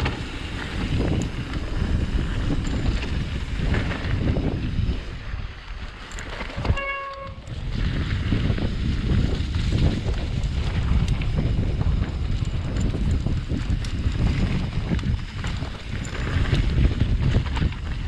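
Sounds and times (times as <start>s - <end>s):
bike frame rattle: 0.0s - 18.0s
bike tyre rumble: 0.0s - 18.0s
wind buffeting microphone: 0.0s - 18.0s.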